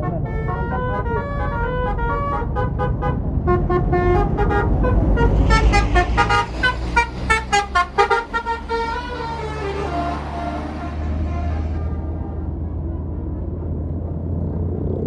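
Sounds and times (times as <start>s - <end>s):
bus horn playing melody: 0.0s - 12.9s
bus engine rumble: 0.0s - 15.0s.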